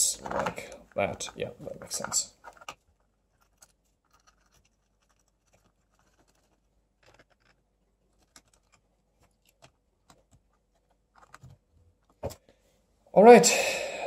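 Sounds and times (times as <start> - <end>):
faint clicks and scrapes: 0.2 - 12.6.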